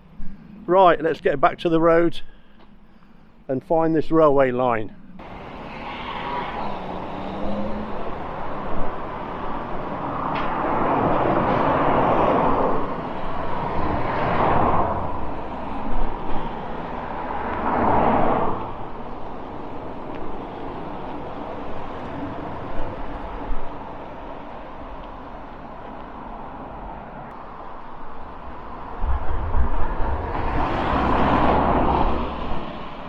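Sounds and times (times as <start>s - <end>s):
steady traffic hum: 0.0s - 33.0s
cars passing by: 4.6s - 33.0s.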